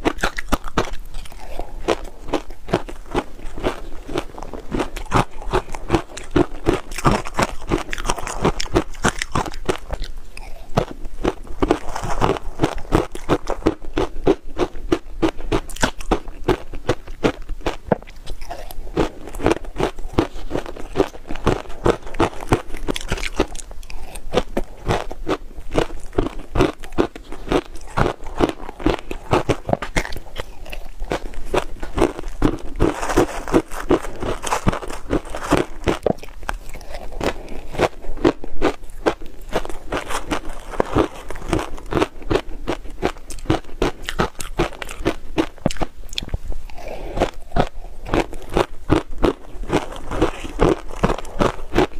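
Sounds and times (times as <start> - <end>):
crunching and chewing shaved ice: 0.0 - 51.9.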